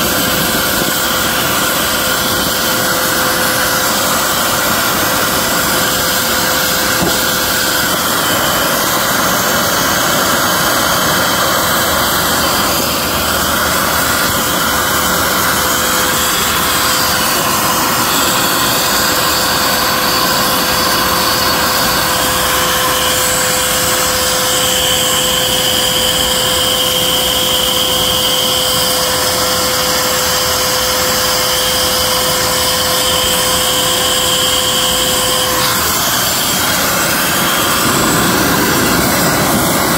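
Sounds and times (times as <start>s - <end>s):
vacuum cleaner suction: 0.0s - 28.5s, 32.3s - 39.9s
constant hum: 0.0s - 39.9s
high whistles of nozzle: 0.0s - 39.9s.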